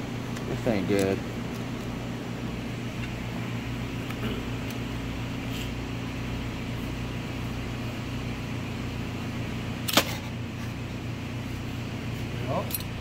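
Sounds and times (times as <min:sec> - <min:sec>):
workshop machinery humming: 0:00.0 - 0:13.0.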